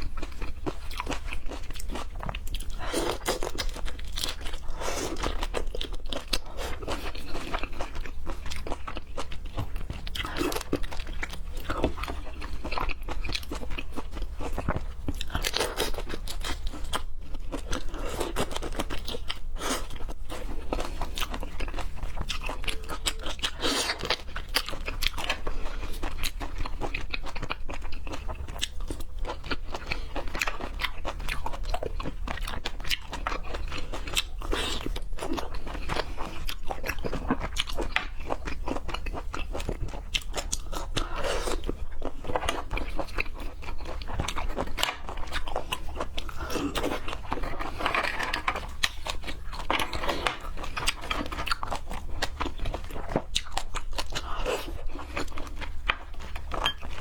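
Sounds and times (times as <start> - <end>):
wet chewing with crunchy bites: 0.0 - 57.0.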